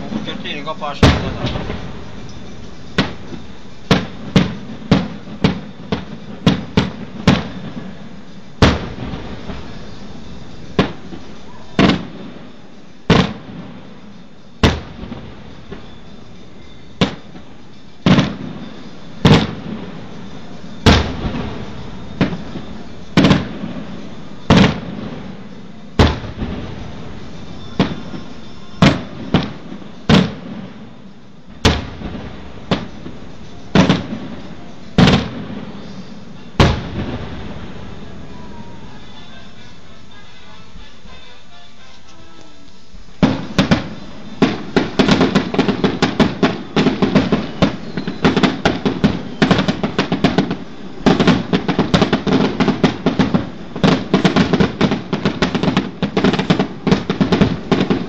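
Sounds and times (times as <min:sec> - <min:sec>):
firework shells bursting: 0:00.0 - 0:41.0, 0:41.9 - 0:58.0.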